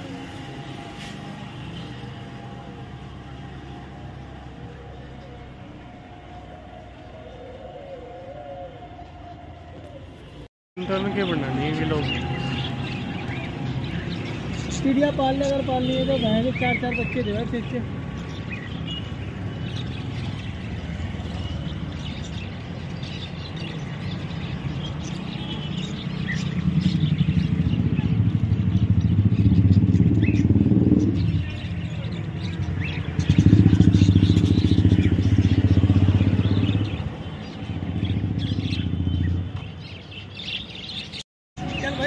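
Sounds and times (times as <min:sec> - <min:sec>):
birds chirping: 0:00.0 - 0:42.0
vehicles passing: 0:00.0 - 0:42.0.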